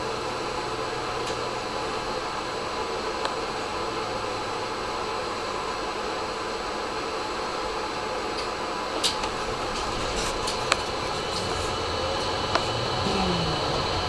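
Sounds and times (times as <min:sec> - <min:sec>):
tram fans whirring hum: 0:00.0 - 0:14.0.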